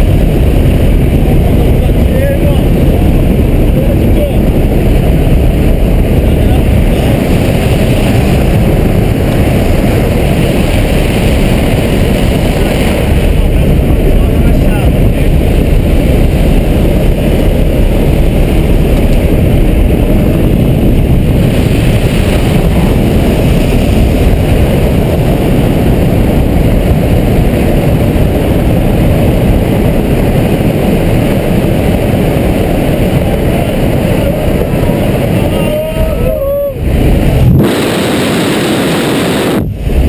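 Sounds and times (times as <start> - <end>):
propeller engine noise: 0.0 - 40.0
wind buffeting microphone: 0.0 - 40.0
wind rushing: 0.0 - 40.0.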